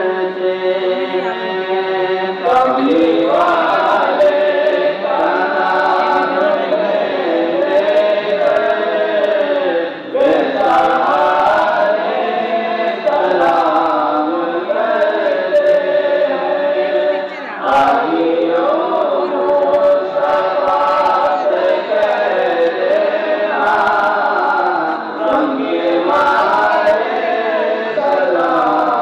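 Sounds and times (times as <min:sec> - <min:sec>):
crowd singing devotional song: 0:00.0 - 0:29.0.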